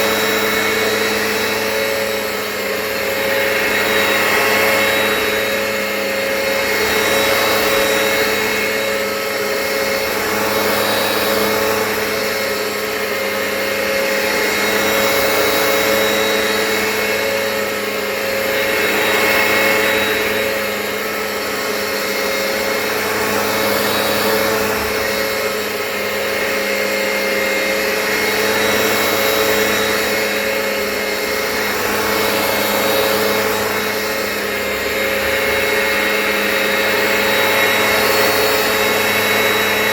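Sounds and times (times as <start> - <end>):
carpet cleaner whining: 0.0 - 39.9.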